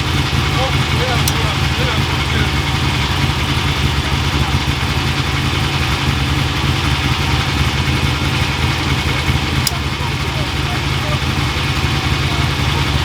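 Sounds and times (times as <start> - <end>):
engine idling with deep rumble: 0.0 - 13.0.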